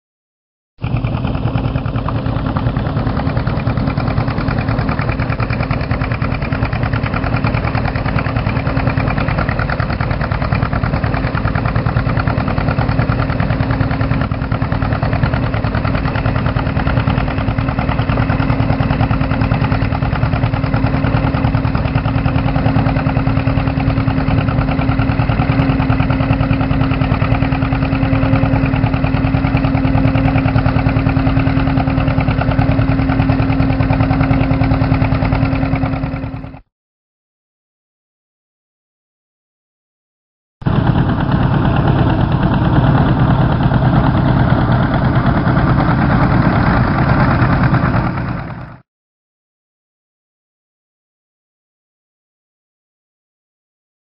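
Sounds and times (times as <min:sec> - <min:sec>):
tractor engine running under load: 0:00.8 - 0:36.6, 0:40.6 - 0:48.8.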